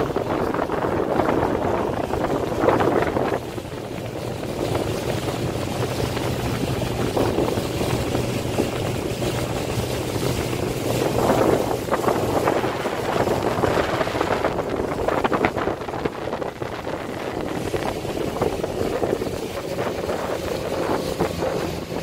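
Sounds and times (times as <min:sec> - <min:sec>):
water rushing: 0:00.0 - 0:22.0
wind buffeting microphone: 0:00.0 - 0:22.0.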